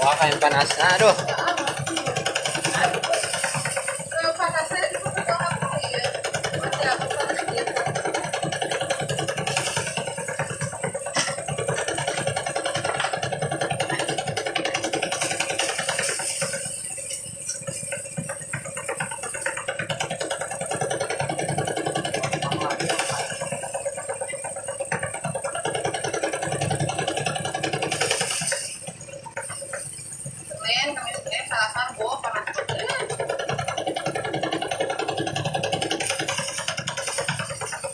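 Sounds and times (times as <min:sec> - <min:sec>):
rice thresher rattling: 0:00.0 - 0:37.9.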